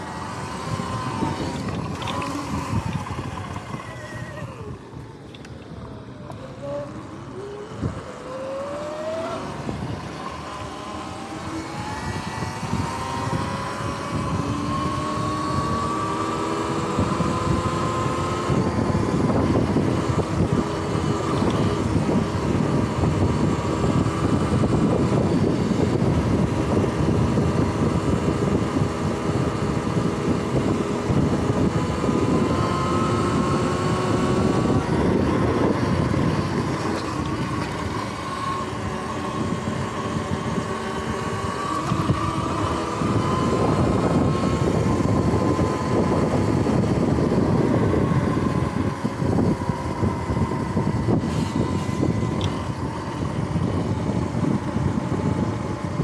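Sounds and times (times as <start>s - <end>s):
electric motorbike motor whine: 0.0s - 56.0s.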